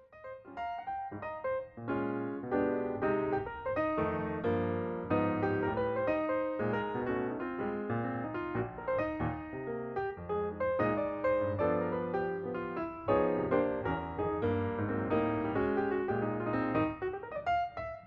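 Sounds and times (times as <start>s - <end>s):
background piano music: 0.0s - 18.0s.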